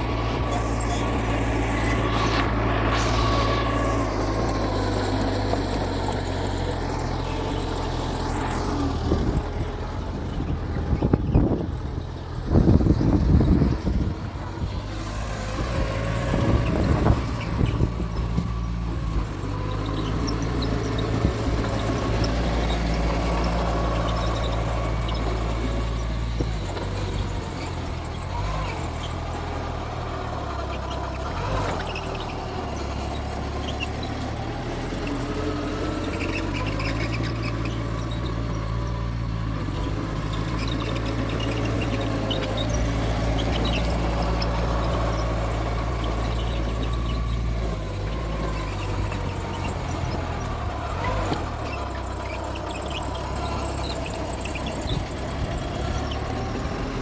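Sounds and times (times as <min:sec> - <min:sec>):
bulldozer diesel engine: 0:00.0 - 0:57.0
tracks squealing: 0:00.0 - 0:57.0.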